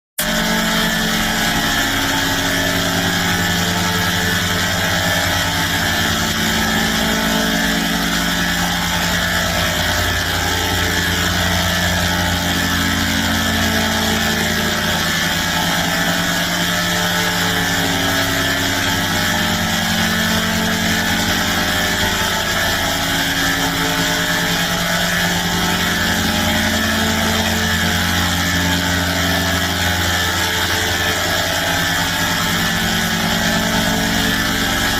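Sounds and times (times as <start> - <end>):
harsh droning chords: 0.2 - 34.9.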